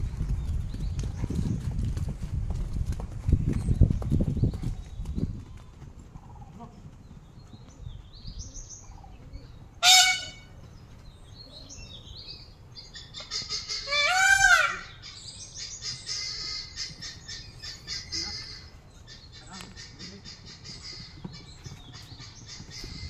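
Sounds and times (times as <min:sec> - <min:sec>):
small birds chirping: 0:03.4 - 0:13.9, 0:14.8 - 0:23.0.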